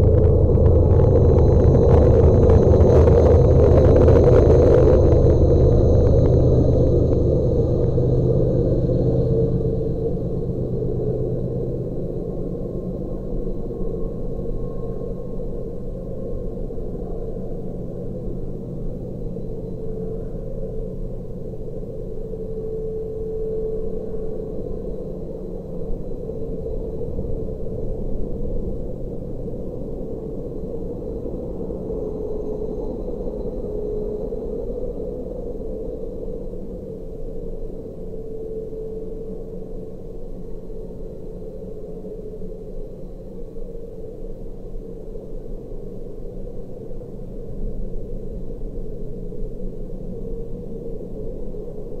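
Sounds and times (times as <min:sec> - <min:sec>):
humming tone: 0:00.0 - 0:44.0.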